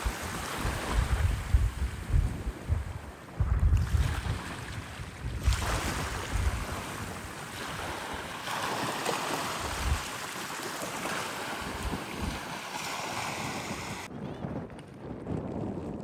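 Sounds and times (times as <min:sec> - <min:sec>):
sea waves on shore: 0:00.0 - 0:14.1
wind buffeting microphone: 0:00.0 - 0:16.0.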